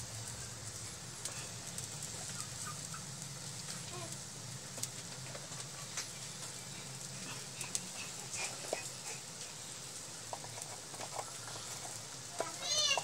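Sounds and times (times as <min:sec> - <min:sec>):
gravy bubbling and hissing: 0:00.0 - 0:13.0.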